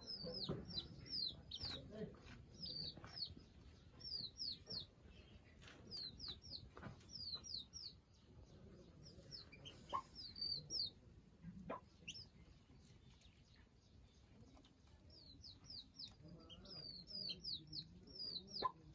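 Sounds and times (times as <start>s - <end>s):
baby chicks peeping: 0.0s - 18.9s.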